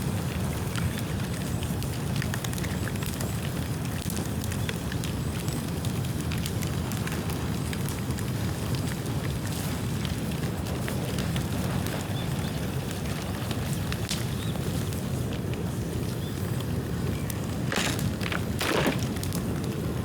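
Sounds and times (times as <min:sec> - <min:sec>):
bonfire rumbling and crackling: 0:00.0 - 0:20.0.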